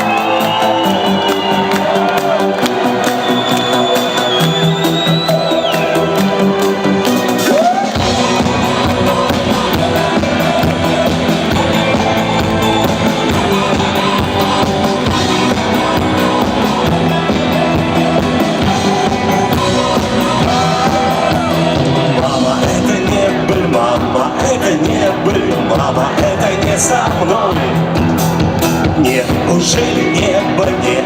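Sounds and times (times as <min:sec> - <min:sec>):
rock music with electric guitar: 0:00.0 - 0:31.0.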